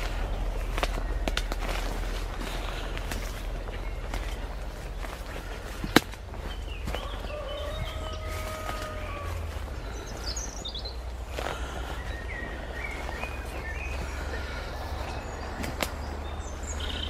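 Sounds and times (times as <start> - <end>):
birds singing: 0.0 - 17.0
steady low rumble: 0.0 - 17.0.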